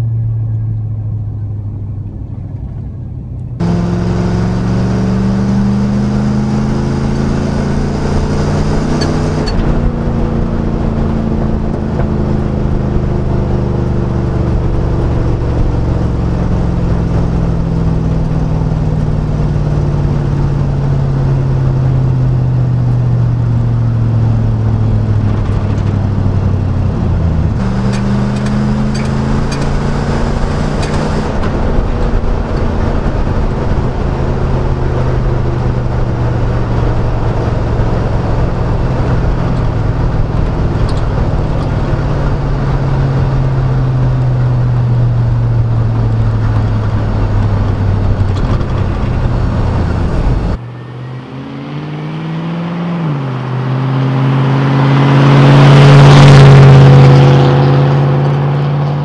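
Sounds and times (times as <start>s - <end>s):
low exhaust drone: 0.0s - 59.0s.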